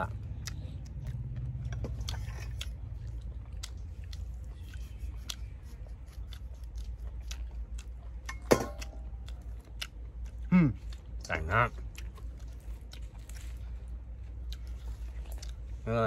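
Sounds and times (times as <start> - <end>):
person chewing: 0.0 - 15.9.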